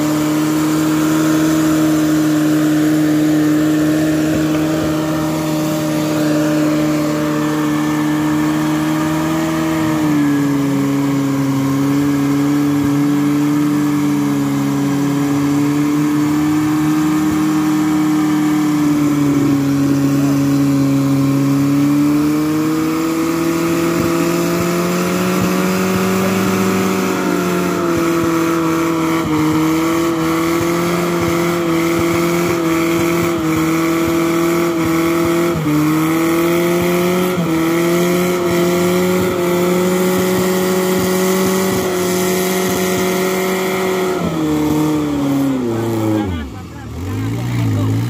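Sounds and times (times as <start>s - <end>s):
vehicle engine droning at high revs: 0.0s - 48.0s.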